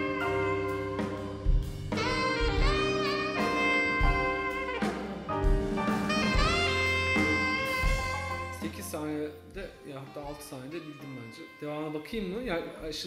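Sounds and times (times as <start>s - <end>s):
small jazz band playing: 0.0s - 12.9s.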